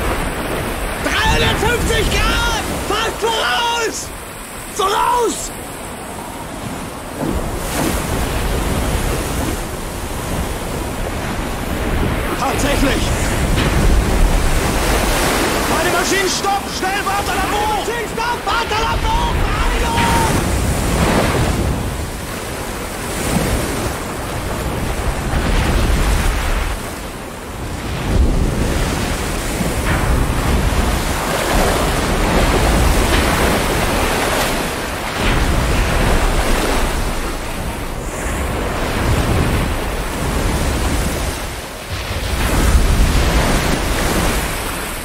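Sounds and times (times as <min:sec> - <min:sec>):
heavy waves breaking: 0:00.0 - 0:45.0
strong wind: 0:00.0 - 0:45.0.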